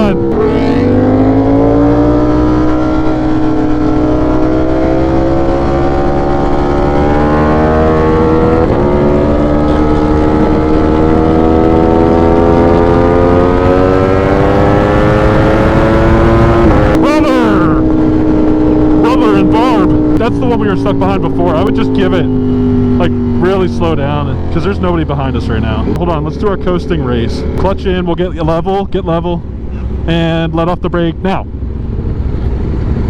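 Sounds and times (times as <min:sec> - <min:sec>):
wind rushing over microphone: 0:00.0 - 0:30.3.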